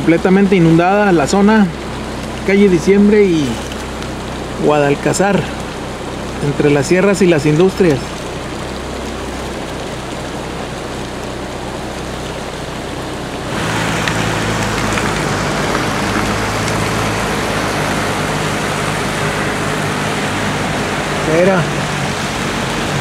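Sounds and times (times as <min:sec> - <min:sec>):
car engine hum: 0:00.0 - 0:23.0
floodwater rushing: 0:00.0 - 0:23.0
heavy rain: 0:00.0 - 0:23.0
tyres hissing through water: 0:00.0 - 0:23.0.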